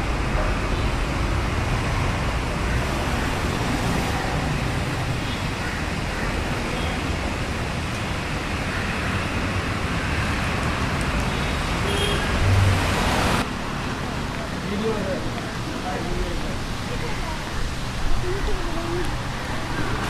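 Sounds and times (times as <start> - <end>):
passing traffic rumble and hiss: 0.0 - 20.0.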